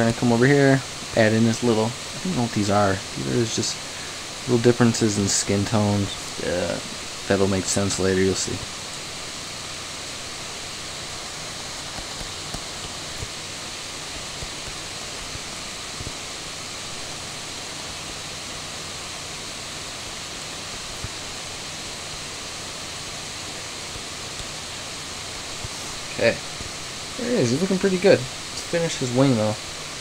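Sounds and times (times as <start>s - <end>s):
microphone hiss: 0.0s - 30.0s.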